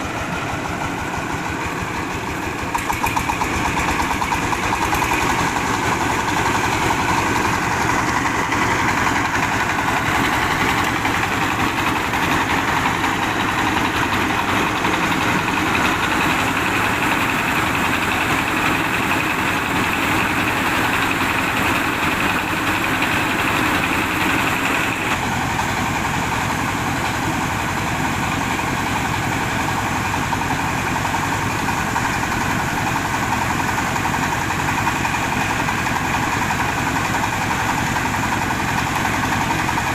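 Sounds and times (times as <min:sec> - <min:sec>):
engine and milling machinery drone: 0:00.0 - 0:39.9.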